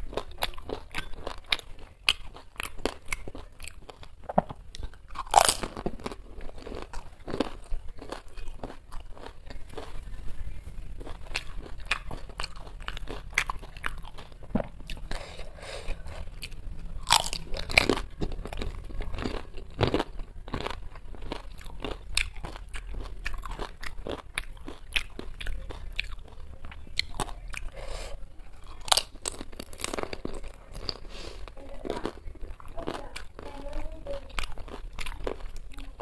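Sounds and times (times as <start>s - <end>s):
chewing and crunching crisp shells: 0.0s - 36.0s.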